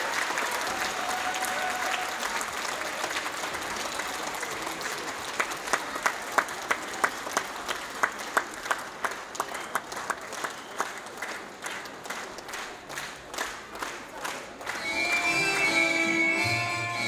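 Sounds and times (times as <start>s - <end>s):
loud regular claps: 0.0s - 15.7s
audience applauding: 0.0s - 16.6s.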